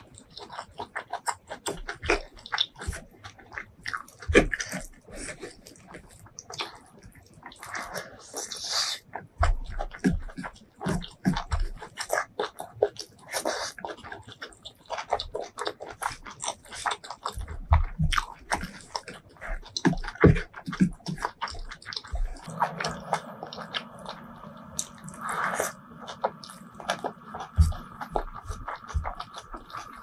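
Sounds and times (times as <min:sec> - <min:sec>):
food crunching: 0:00.0 - 0:30.0
wet chewing: 0:00.0 - 0:30.0
lip smacks: 0:00.2 - 0:30.0.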